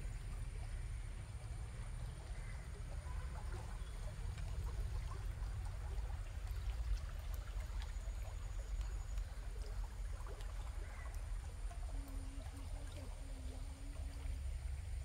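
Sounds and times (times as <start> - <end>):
steady low rumble: 0.0 - 15.0
stream babbling over stones: 0.0 - 15.0.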